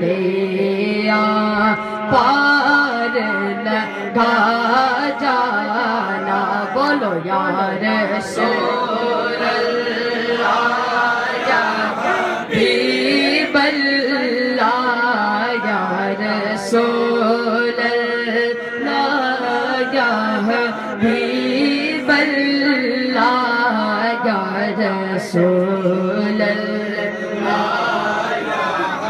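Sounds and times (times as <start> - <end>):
man singing into a microphone: 0.0 - 11.8, 12.4 - 27.6.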